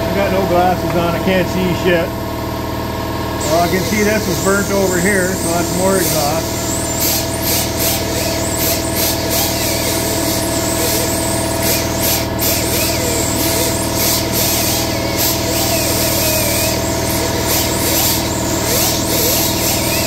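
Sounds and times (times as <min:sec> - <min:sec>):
air compressor running: 0:00.0 - 0:20.0
air tool hissing: 0:03.4 - 0:20.0.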